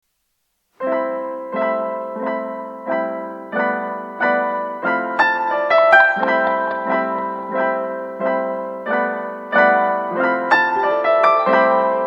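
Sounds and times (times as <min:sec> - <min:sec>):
piano chords: 0:00.9 - 0:12.0.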